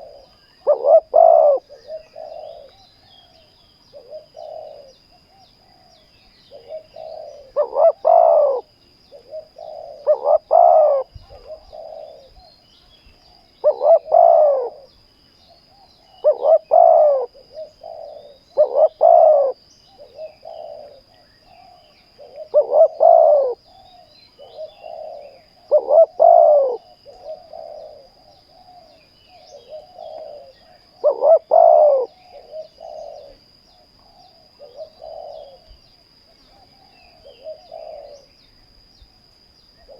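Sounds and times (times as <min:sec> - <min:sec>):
doves cooing: 0:00.0 - 0:12.5, 0:13.2 - 0:14.9, 0:15.8 - 0:35.8, 0:36.4 - 0:38.3.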